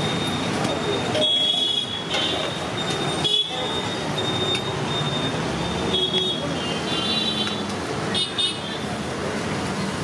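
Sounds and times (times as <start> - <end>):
vehicle engines running: 0.0 - 10.0.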